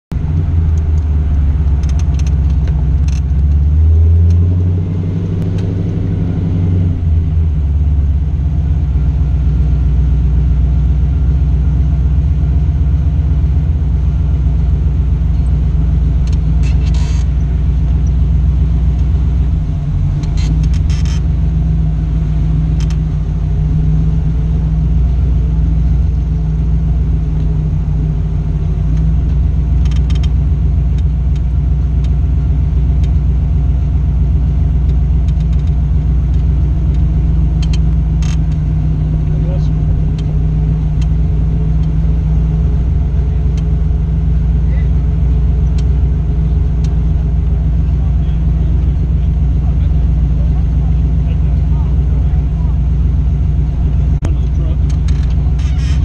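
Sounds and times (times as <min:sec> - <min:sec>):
car engine rumbling: 0:00.1 - 0:56.0.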